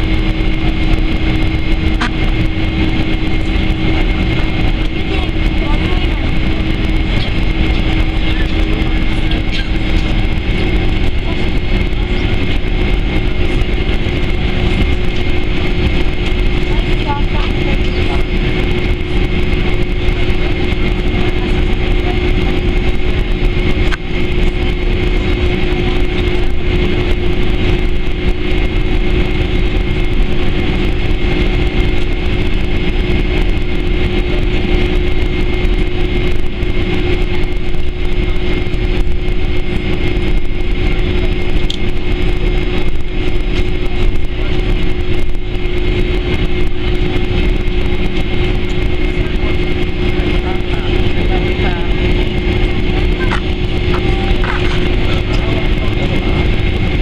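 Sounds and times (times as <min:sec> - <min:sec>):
cabin rumble and hiss: 0:00.0 - 0:57.0
jet engines whining: 0:00.0 - 0:57.0.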